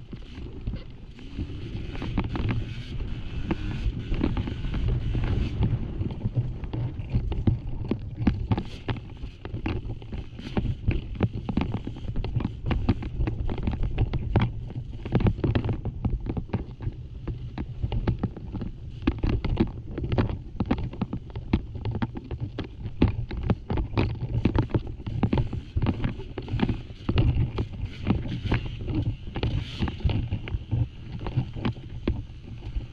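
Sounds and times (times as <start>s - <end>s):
dirt bike rattling over rocks: 0.0s - 32.9s
wind buffeting microphone: 0.0s - 32.9s.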